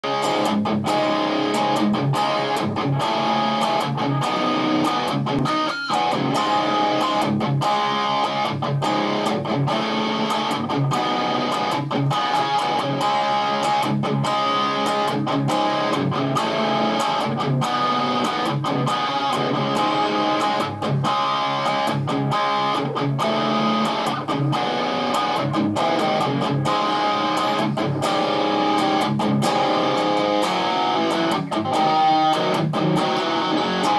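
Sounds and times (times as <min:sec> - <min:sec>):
distorted electric guitar riffs: 0:00.0 - 0:33.9.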